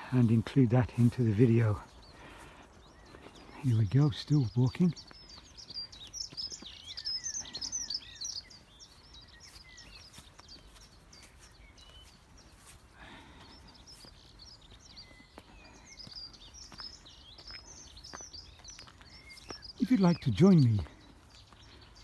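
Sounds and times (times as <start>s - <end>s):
birds chirping and warbling: 0.0s - 22.0s
faint outdoor background noise: 0.0s - 22.0s.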